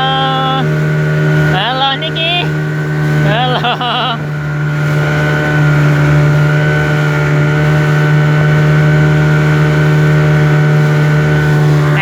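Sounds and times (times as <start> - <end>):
speedboat engine drone: 0.0 - 12.0.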